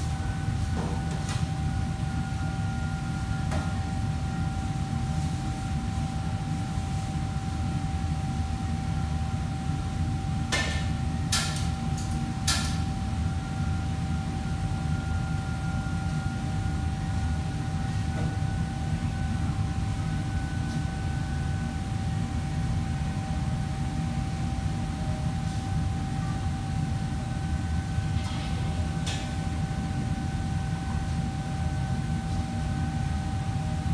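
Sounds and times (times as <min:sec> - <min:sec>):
thin constant whine: 0:00.0 - 0:33.9.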